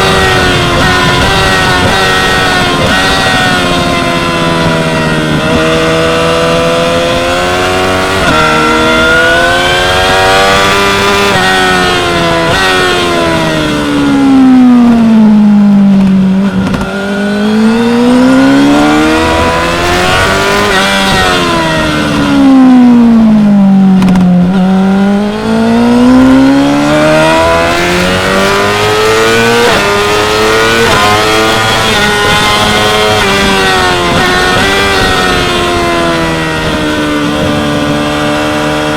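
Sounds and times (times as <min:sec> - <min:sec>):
motorcycle engine accelerating: 0:00.0 - 0:38.9
gear upshifts: 0:00.1 - 0:37.6.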